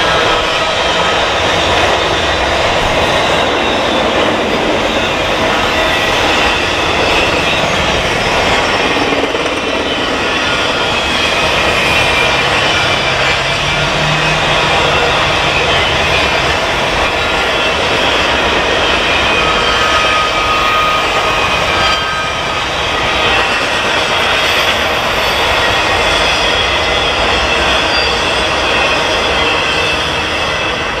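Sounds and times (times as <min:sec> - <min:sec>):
freight train rolling over rails: 0:00.0 - 0:31.0
faint wheel squeals: 0:03.2 - 0:31.0.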